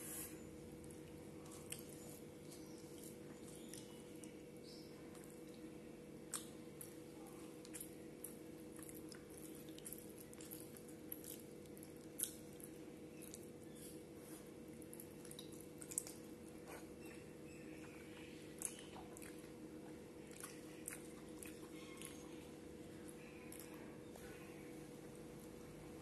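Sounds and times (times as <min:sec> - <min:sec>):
faint steady hum: 0:00.0 - 0:26.0
wet squishing of food by hand: 0:00.7 - 0:24.6
chewing with mouth clicks: 0:00.8 - 0:24.4.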